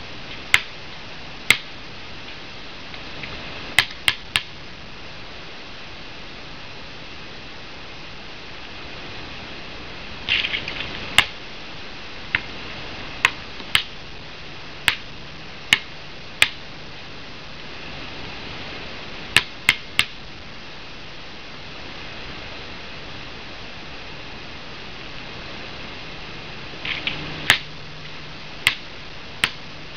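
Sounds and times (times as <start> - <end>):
steady hiss: 0.0 - 29.9.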